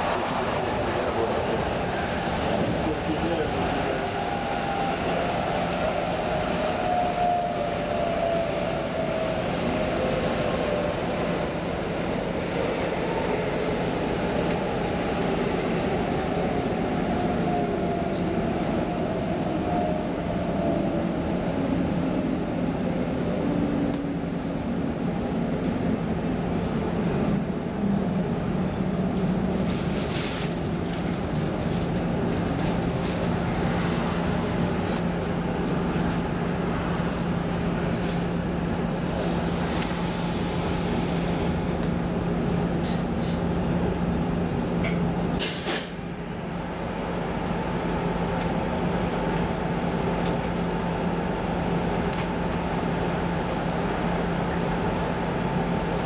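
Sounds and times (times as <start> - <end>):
train rumble and rail noise: 0.0 - 56.0.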